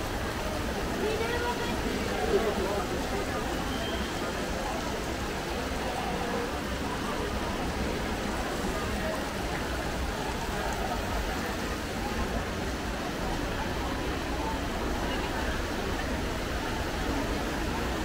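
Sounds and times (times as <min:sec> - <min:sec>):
fountain water splashing: 0:00.0 - 0:18.0
people chattering: 0:00.0 - 0:18.0.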